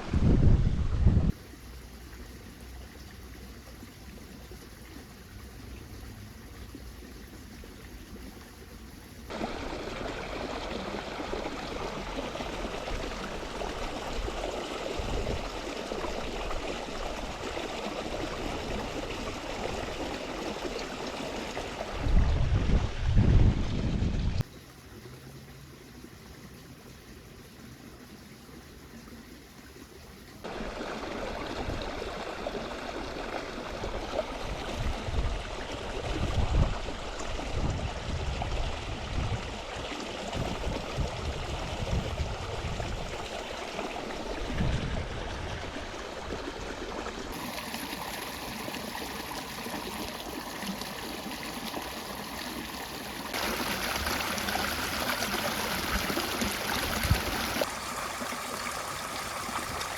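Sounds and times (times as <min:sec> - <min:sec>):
water running and trickling: 0:01.3 - 0:22.2, 0:24.4 - 0:59.9.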